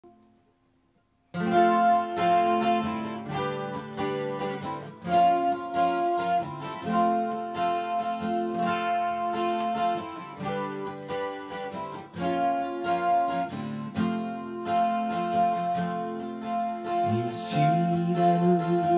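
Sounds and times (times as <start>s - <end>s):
acoustic guitar strummed chords: 1.3s - 18.9s.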